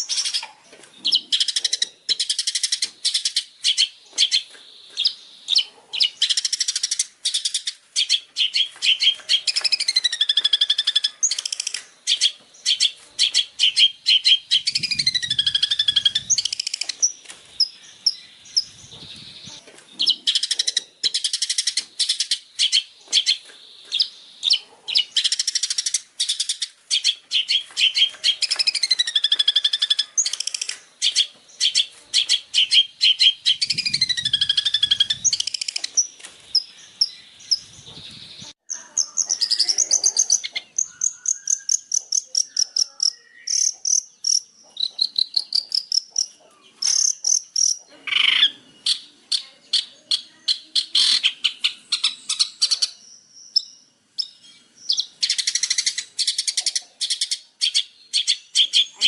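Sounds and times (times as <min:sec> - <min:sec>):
bird singing chattering runs: 0:00.0 - 0:59.0.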